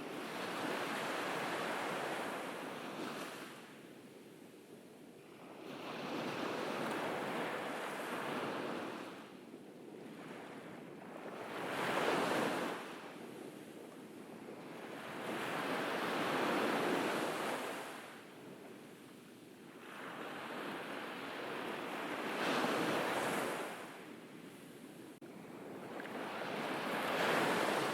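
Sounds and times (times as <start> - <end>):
ocean waves breaking on beach: 0.0 - 3.8, 5.2 - 9.4, 10.0 - 27.9.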